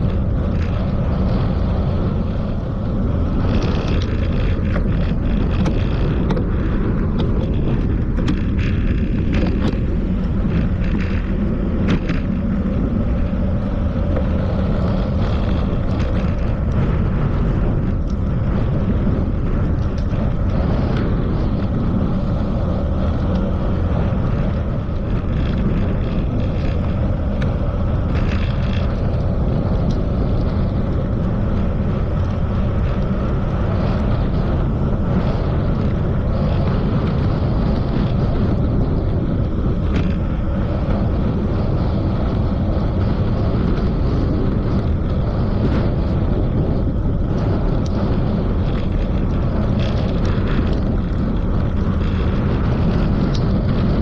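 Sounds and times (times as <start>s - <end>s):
bicycle tyre and road noise: 0.0s - 54.0s
wind rushing on microphone: 0.0s - 54.0s.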